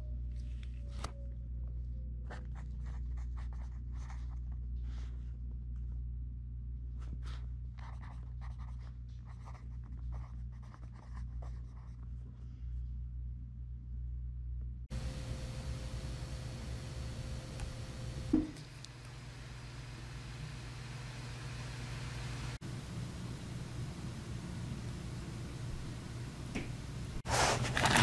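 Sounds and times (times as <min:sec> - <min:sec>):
low hum: 0:00.0 - 0:27.2.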